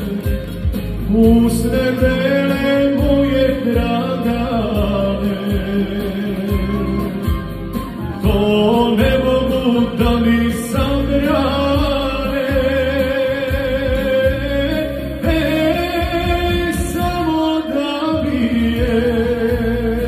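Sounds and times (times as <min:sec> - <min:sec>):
backing track with bass beat: 0:00.0 - 0:20.0
man singing into a microphone: 0:00.0 - 0:20.0.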